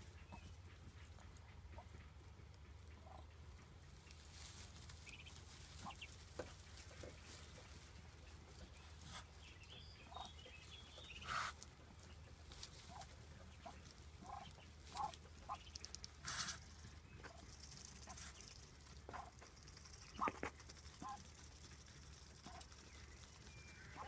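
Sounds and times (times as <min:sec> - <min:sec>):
duck and ducklings calling softly: 0:00.0 - 0:24.0.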